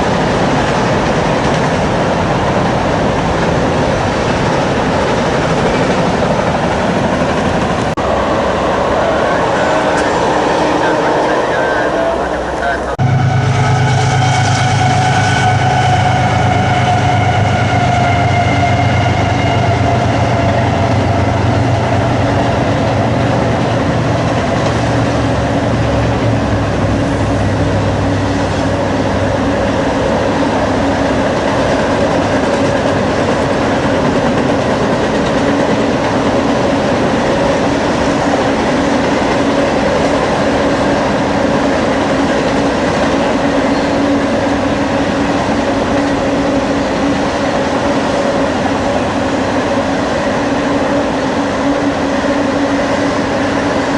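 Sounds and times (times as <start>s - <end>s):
locomotive engine: 0.0s - 53.9s
train wheels rumbling on rail: 0.0s - 53.9s.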